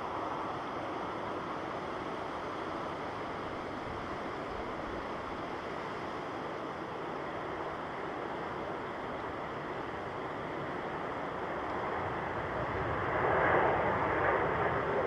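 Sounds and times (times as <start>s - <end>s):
jet airliner engine rush: 0.0s - 15.0s.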